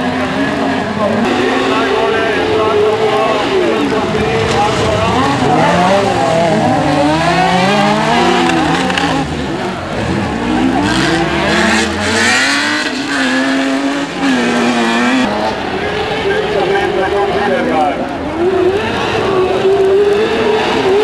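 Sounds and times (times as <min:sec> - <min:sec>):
buggy engines revving: 0:00.0 - 0:21.0.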